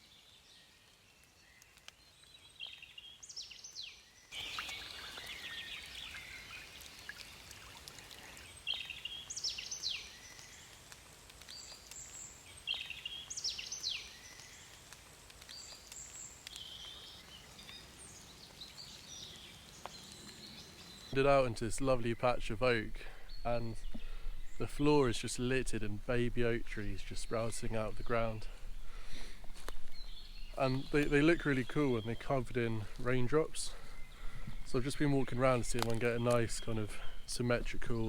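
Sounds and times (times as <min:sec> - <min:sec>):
songbird singing: 0:00.0 - 0:10.8, 0:11.4 - 0:38.0
light rain hiss: 0:00.0 - 0:38.0.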